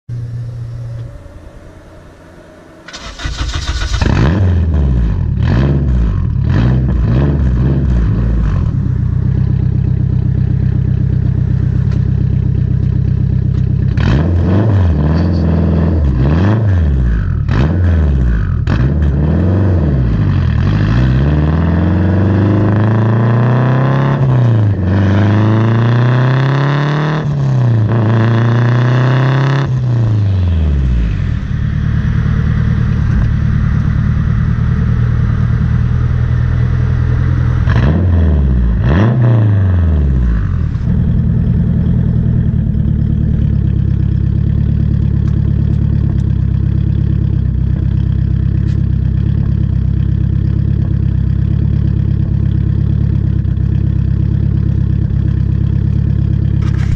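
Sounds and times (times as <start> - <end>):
car engine exhaust revving: 0.1 - 56.9.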